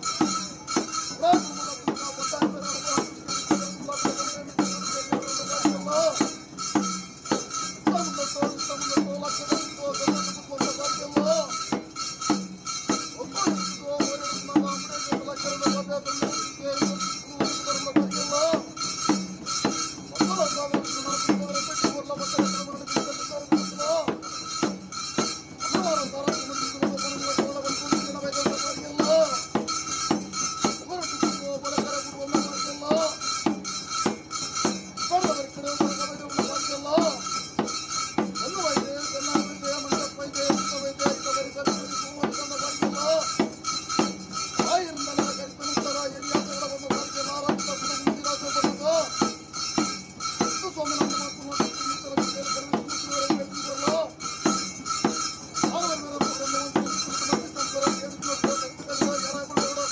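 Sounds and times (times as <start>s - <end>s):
drums and cymbals beat: 0.0s - 59.9s.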